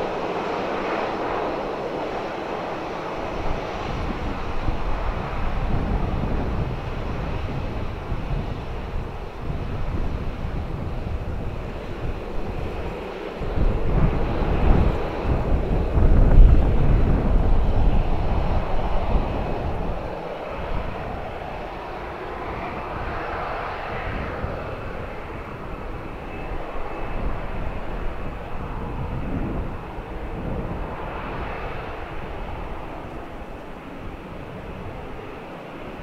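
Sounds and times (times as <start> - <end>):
jet engines roaring with whine: 0.0 - 36.0.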